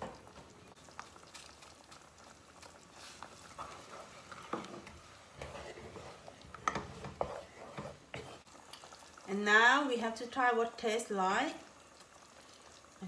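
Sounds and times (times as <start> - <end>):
curry simmering in pan: 0.0 - 13.0.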